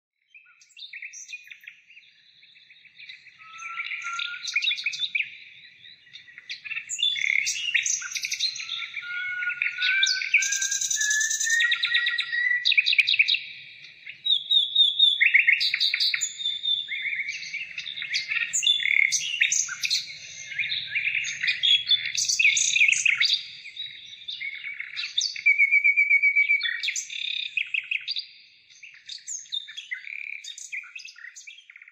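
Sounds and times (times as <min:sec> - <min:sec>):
songbirds singing and chirping: 0:00.2 - 0:31.9.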